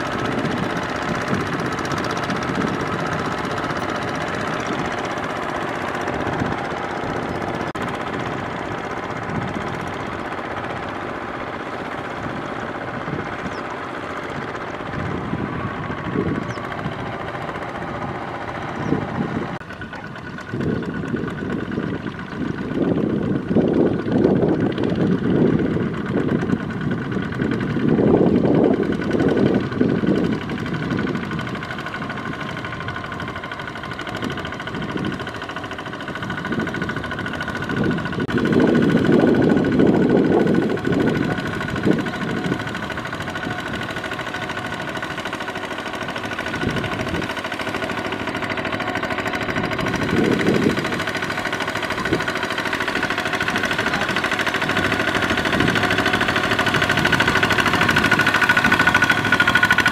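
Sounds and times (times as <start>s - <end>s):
diesel engine knocking clatter: 0.0s - 59.9s
low rumbling: 0.0s - 59.9s.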